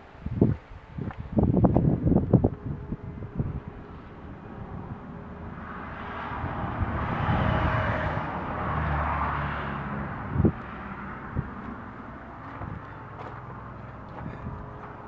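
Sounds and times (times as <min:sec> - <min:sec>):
vehicle engine passing: 0:01.8 - 0:15.0.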